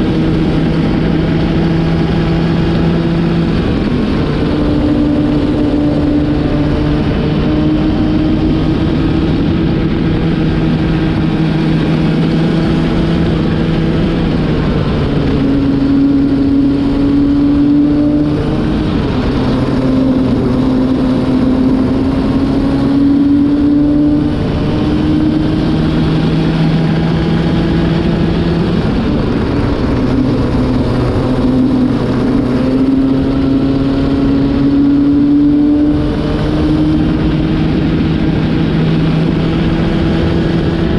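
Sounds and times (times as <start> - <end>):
kart engine revving: 0.0 - 40.9
wind and road noise: 0.0 - 40.9.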